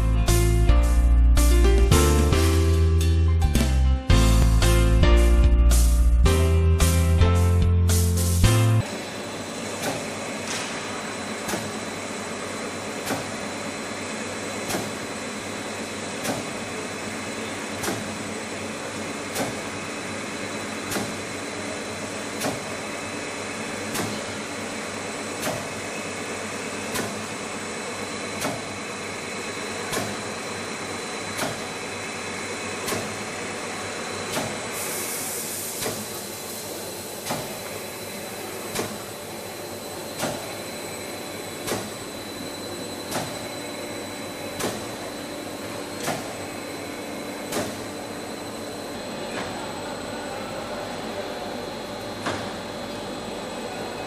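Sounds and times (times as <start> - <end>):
machine humming and hissing: 4.1 - 54.0.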